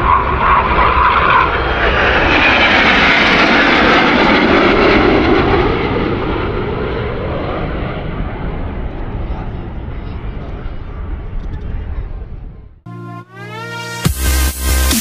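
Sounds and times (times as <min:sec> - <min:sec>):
jet aircraft flying past: 0:00.0 - 0:12.8.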